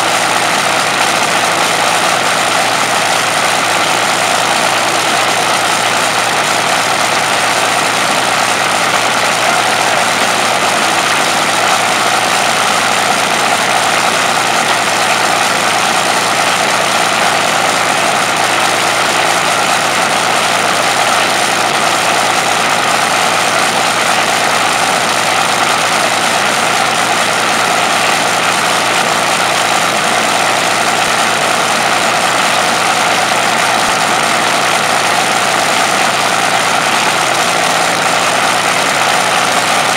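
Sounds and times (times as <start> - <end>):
aero engine running: 0.0 - 39.9.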